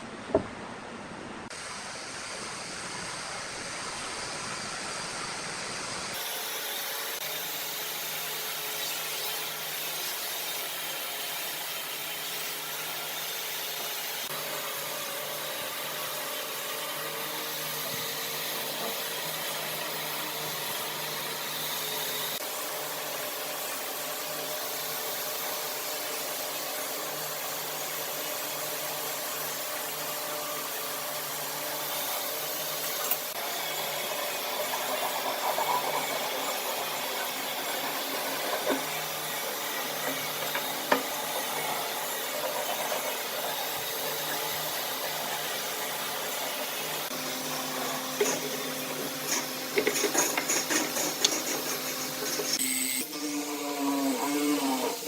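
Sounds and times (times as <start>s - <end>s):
power tool cutting wood: 6.1s - 55.0s.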